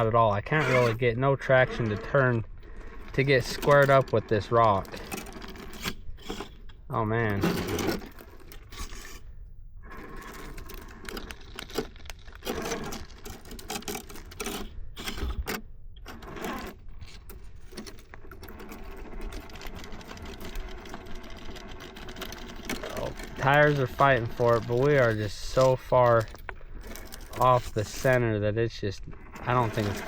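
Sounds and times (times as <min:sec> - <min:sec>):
electric motor whirring: 0:00.0 - 0:28.2, 0:29.0 - 0:30.0.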